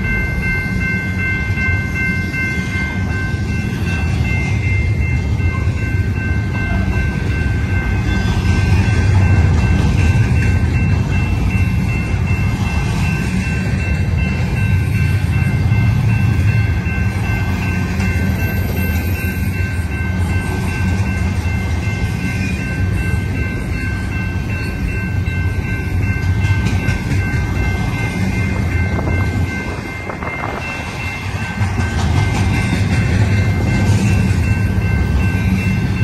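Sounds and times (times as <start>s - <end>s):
high-pitched ringing tone: 0.0s - 36.0s
train wheels rumbling on rails: 0.0s - 36.0s.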